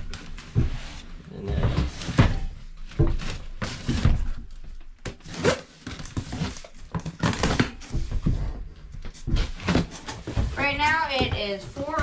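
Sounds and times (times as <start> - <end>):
cardboard packaging being handled: 0.0 - 12.0.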